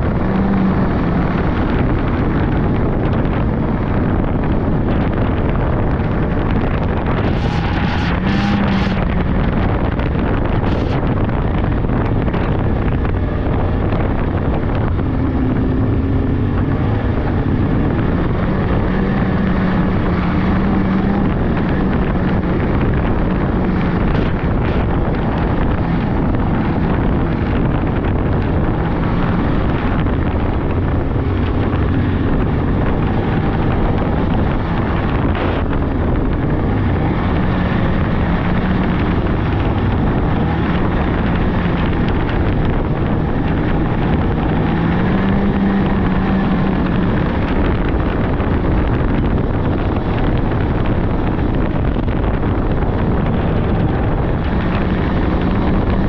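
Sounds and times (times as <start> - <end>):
snowmobile engine running: 0.0 - 56.0
wind buffeting microphone: 0.0 - 56.0.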